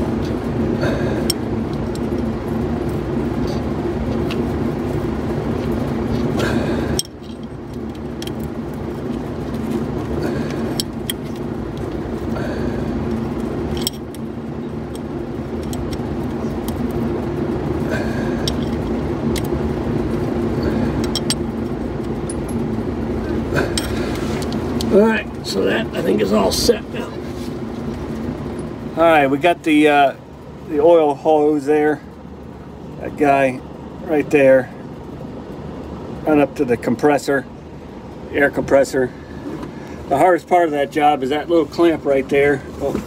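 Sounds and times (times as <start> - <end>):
mechanical hum: 0.0 - 43.0.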